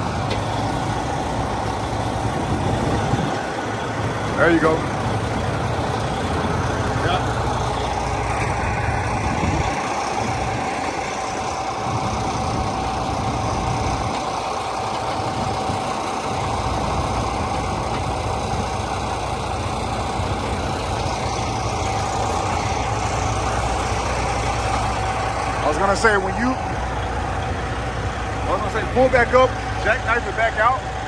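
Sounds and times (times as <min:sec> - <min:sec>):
constant whine: 0:00.0 - 0:31.0
diesel truck engine idling: 0:00.0 - 0:31.0.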